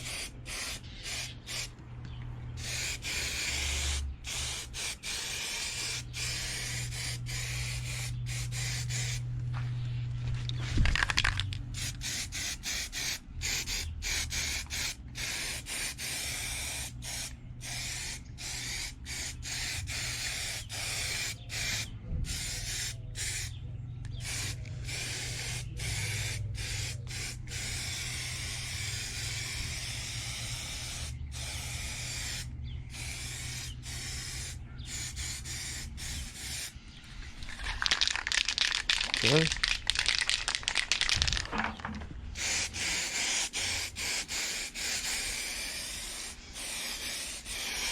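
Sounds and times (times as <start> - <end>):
spray paint hissing: 0.0 - 1.7, 2.6 - 9.3, 10.6 - 36.8, 42.4 - 47.9.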